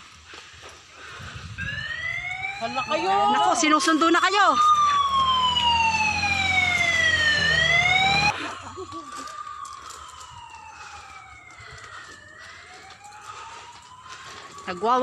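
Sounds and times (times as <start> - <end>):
siren wailing: 1.4 - 15.0.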